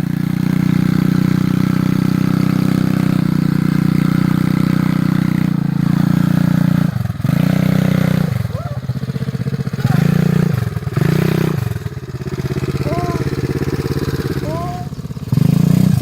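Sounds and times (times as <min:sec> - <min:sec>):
small motorbike engine high revs: 0:00.0 - 0:16.0.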